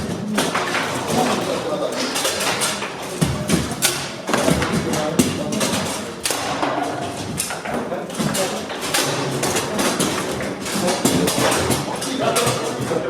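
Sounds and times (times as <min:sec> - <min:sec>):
foosball ball knocks and clacks: 0:00.0 - 0:13.0
voices: 0:00.0 - 0:13.0.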